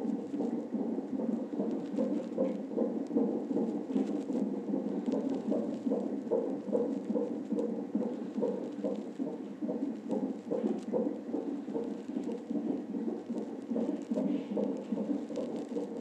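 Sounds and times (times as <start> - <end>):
fetal heartbeat whooshing pulses: 0.0 - 16.0.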